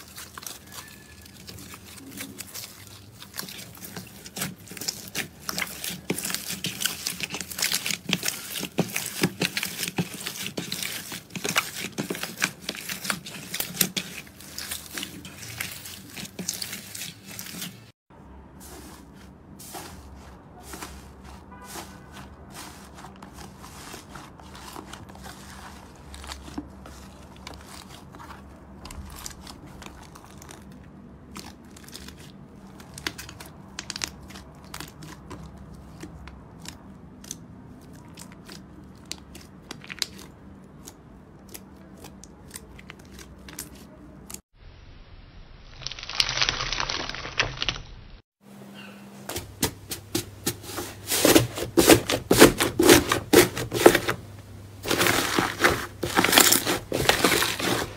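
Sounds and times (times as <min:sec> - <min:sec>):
hands squishing slime: 0:00.0 - 0:17.9, 0:18.6 - 0:44.4, 0:49.3 - 0:57.9
crunchy slime crust crackling: 0:00.0 - 0:18.0, 0:18.9 - 0:44.4, 0:45.7 - 0:48.2, 0:50.4 - 0:57.9.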